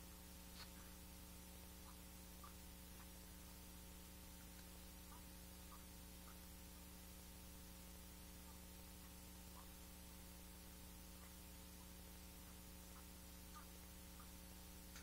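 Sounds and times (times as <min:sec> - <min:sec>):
faint electrical hum: 0:00.0 - 0:15.0
low hiss: 0:00.0 - 0:15.0
faint ticks: 0:01.7 - 0:15.0.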